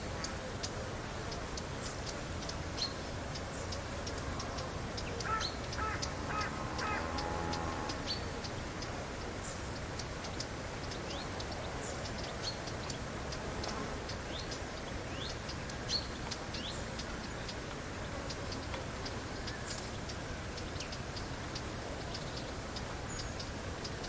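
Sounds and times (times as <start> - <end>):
low outdoor rumble: 0.0 - 24.0
small birds chirping: 0.0 - 24.0.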